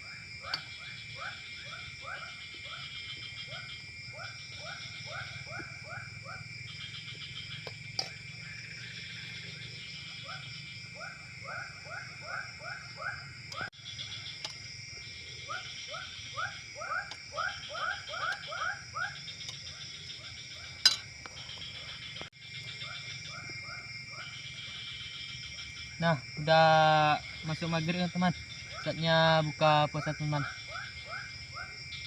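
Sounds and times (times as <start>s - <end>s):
frogs croaking: 0.0s - 32.0s
high drone of insects: 0.0s - 32.0s.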